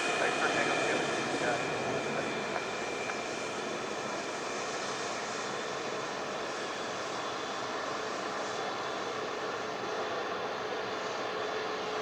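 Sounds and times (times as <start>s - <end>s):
jet engine rush with whine: 0.0s - 12.0s.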